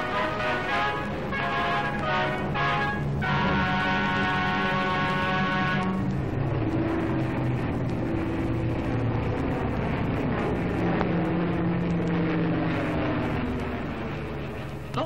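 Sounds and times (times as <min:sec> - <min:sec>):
aircraft piston engines droning: 0:00.0 - 0:15.0.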